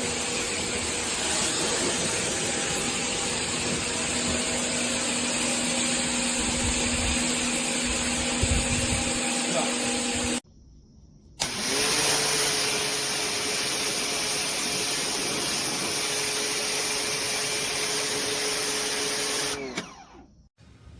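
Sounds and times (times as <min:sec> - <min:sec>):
pressure washer running: 0:00.0 - 0:10.4, 0:11.4 - 0:20.2.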